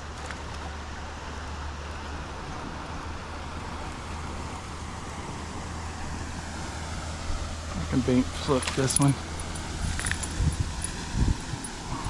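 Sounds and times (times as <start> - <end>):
constant low hum: 0.0 - 12.0
even outdoor rush: 0.0 - 12.0.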